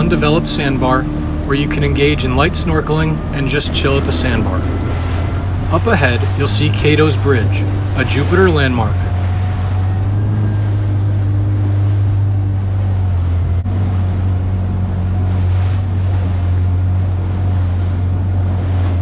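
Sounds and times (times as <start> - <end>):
jet ski engine humming: 0.0 - 19.0.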